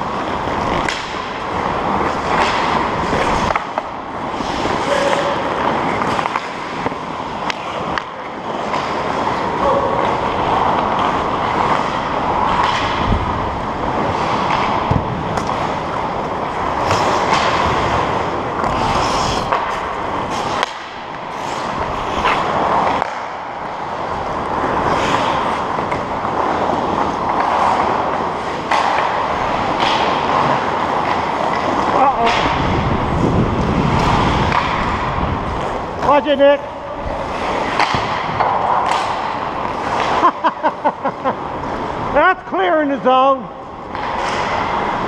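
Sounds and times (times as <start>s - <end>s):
skates scraping on ice: 0.0s - 45.0s
sticks and puck clacking on ice: 0.0s - 45.0s.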